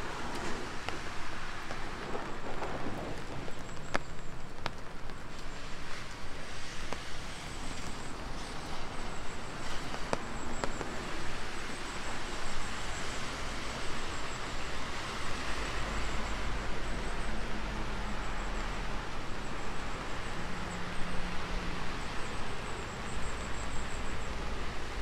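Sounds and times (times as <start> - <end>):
low traffic rumble: 0.0 - 25.0
steady rain falling: 0.0 - 25.0.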